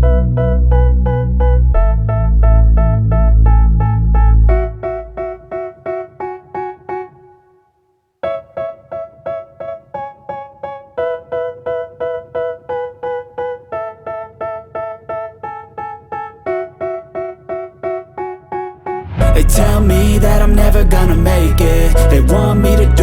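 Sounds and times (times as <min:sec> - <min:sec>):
keyboard playing repeated chords: 0:00.0 - 0:23.0.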